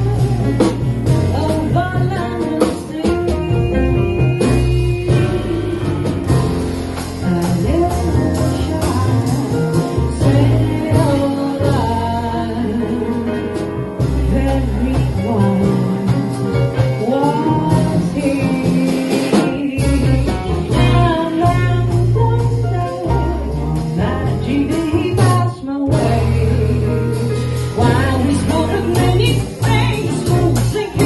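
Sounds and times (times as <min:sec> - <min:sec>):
double bass: 0:00.0 - 0:31.0
piano: 0:00.0 - 0:31.0
woman singing jazz: 0:00.0 - 0:31.0.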